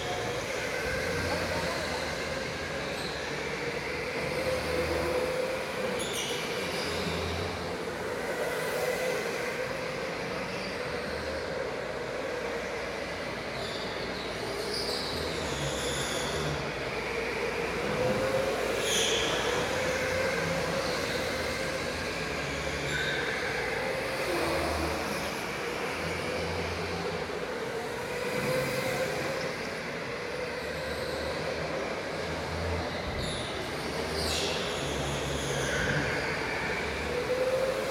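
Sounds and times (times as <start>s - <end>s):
electric go-kart motor whine: 0.0s - 37.9s.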